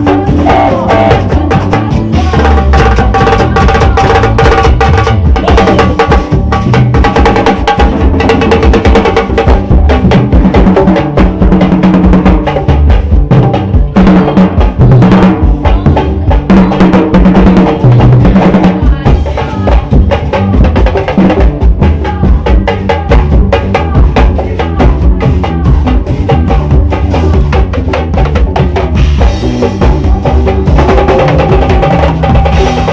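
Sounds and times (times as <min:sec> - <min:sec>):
percussion-heavy band music: 0:00.0 - 0:32.9.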